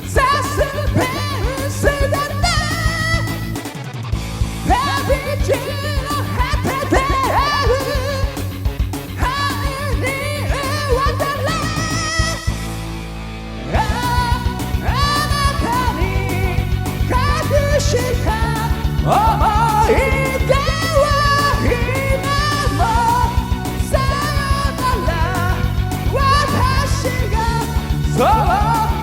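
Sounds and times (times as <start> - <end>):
man singing with heavy vibrato: 0.0 - 3.5, 4.6 - 8.5, 9.2 - 12.6, 13.6 - 29.0
karaoke backing track with drums: 0.0 - 12.9, 13.7 - 29.0.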